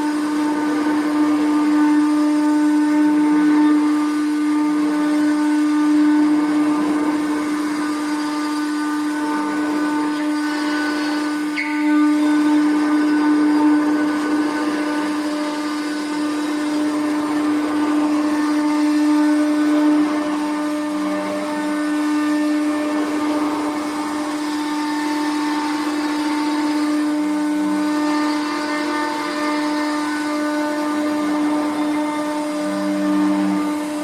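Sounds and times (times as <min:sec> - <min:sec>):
router bit cutting wood: 0:00.0 - 0:34.0
router spindle high whine: 0:00.0 - 0:34.0.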